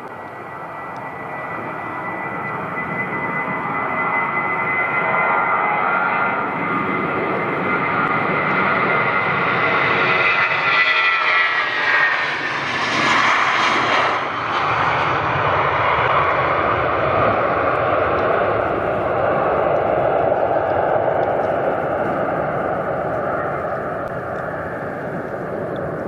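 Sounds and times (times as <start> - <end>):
jet airliner passing by: 0.0 - 26.0.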